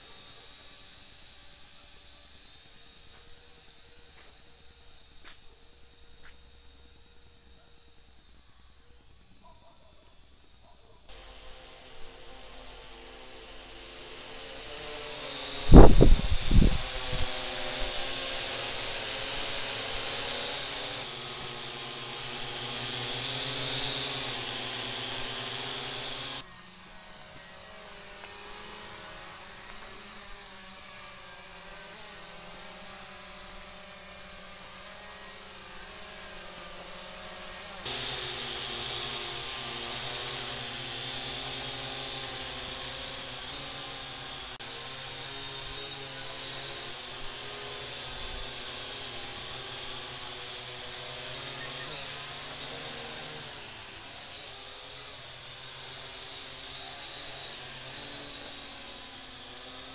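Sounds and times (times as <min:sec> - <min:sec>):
quadcopter propellers whining: 0:00.0 - 0:59.9.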